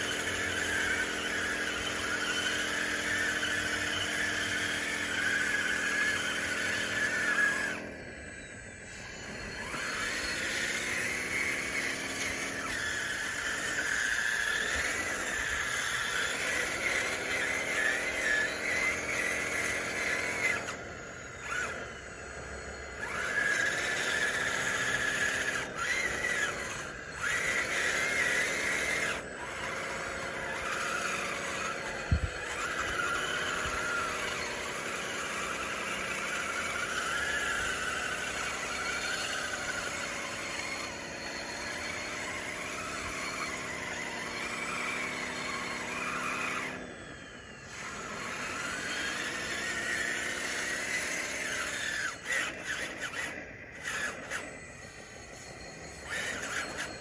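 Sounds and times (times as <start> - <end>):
electric motors whining: 0.0 - 57.0
high wavering squeal: 0.0 - 57.0.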